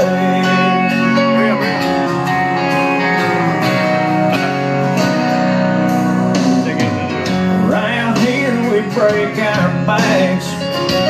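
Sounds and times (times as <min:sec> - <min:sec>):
strummed guitar music: 0:00.0 - 0:11.0.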